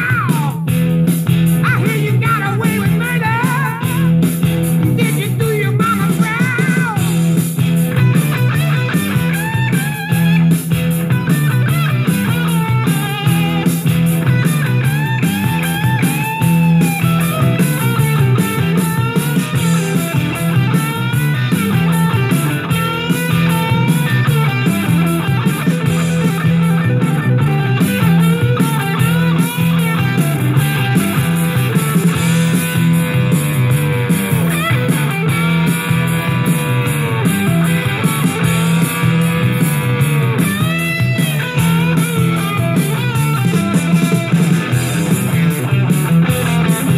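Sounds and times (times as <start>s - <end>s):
lead electric guitar bending notes: 0.0s - 46.9s
rock music: 0.0s - 46.9s
steady bass: 0.0s - 46.9s.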